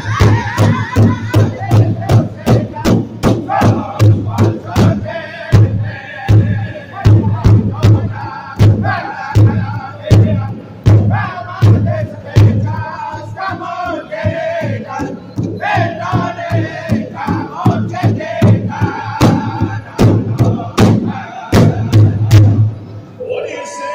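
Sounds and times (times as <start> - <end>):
group singing in high voices: 0.0 - 22.7
large drum beating: 0.0 - 22.9.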